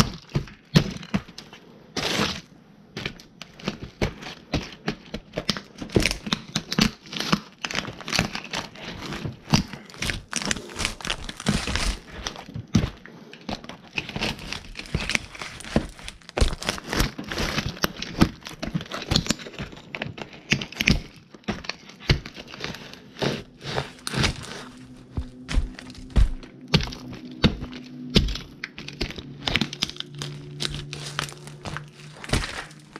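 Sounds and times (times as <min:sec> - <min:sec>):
toy cars crunching underfoot: 0:00.0 - 0:32.9.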